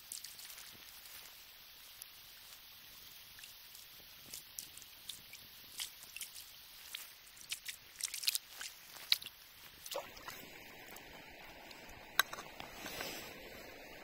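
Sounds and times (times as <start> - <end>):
fish splashing in water: 0.0 - 13.9
steady hiss: 0.0 - 14.0.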